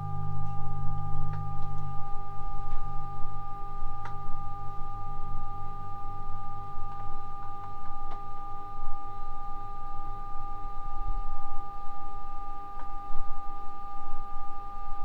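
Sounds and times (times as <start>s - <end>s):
printer electrical whine: 0.0s - 14.1s.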